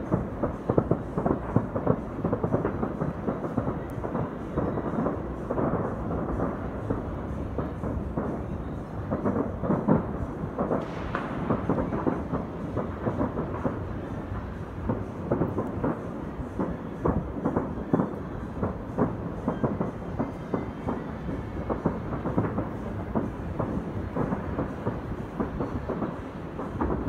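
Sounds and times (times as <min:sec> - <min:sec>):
distant fireworks bangs: 0:00.0 - 0:27.0.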